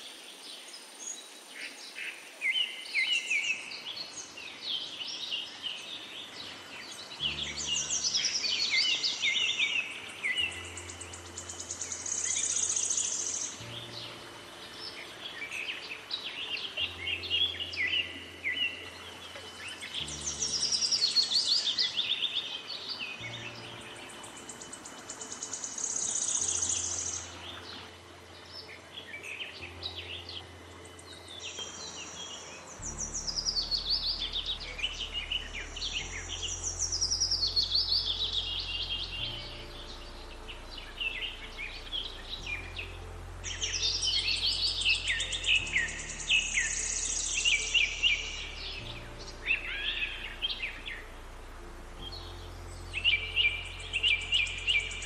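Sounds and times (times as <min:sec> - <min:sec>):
slow low background music: 0:00.1 - 0:55.0.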